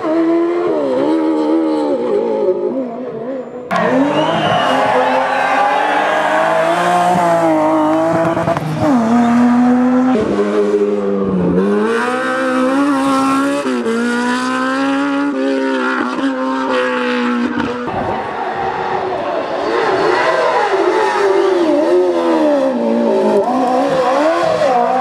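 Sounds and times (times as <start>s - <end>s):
racing car engines revving: 0.0s - 25.0s.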